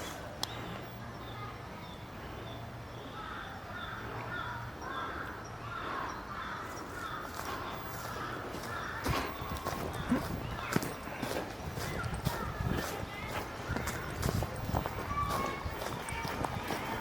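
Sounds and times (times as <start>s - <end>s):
harsh repeated bird calls: 0.0s - 17.0s.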